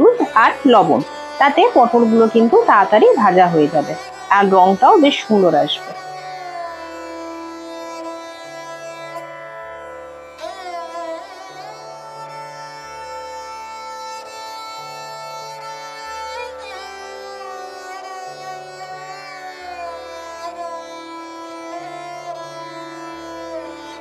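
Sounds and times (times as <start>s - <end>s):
string melody with sliding notes: 0.0s - 24.0s.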